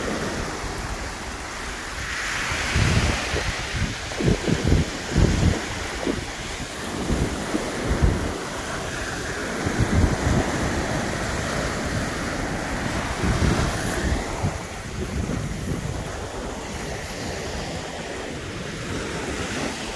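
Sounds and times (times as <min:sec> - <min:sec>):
waves washing onto shingle: 0:00.0 - 0:19.9
wind buffeting microphone: 0:00.0 - 0:19.9.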